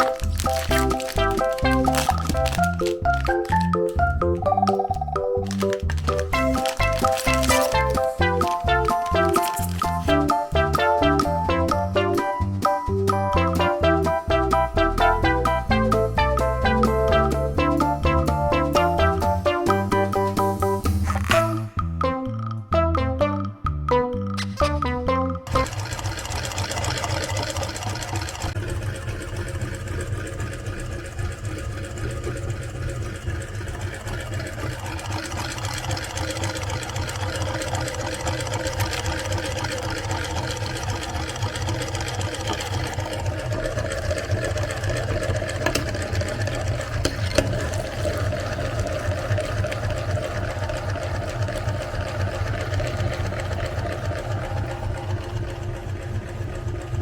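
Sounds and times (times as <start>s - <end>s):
meat grinder motor running: 0.0s - 21.4s, 25.5s - 57.0s.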